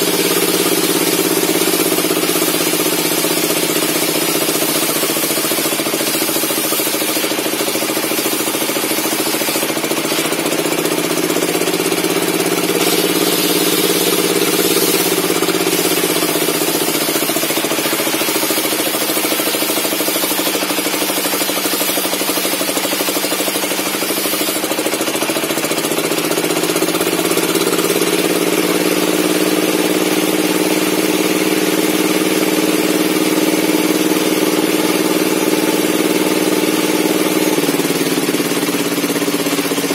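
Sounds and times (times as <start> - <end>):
circular saw cutting log: 0.0 - 39.9.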